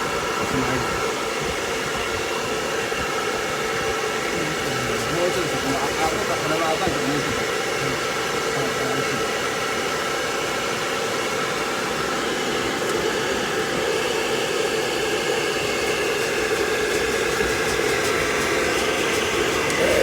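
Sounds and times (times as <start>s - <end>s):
blow dryer running: 0.0s - 20.0s.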